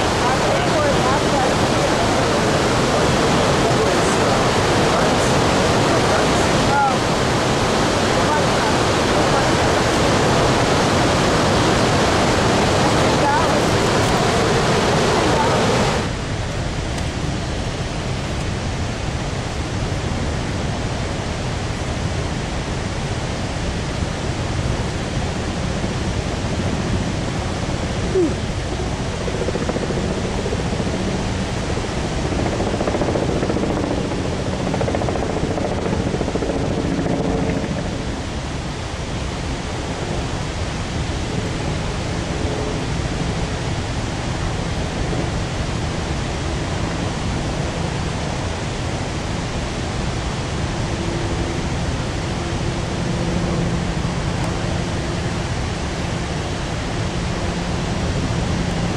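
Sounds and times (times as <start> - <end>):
roar of distant waterfall: 0.0 - 58.9.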